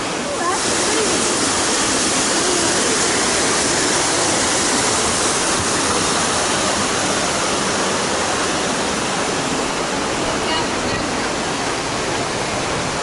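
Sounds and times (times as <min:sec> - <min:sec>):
rushing white water: 0:00.0 - 0:13.0.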